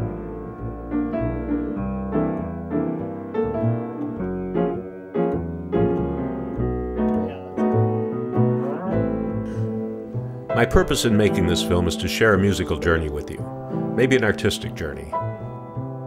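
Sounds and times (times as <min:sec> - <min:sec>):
jazz piano chords: 0:00.0 - 0:16.0.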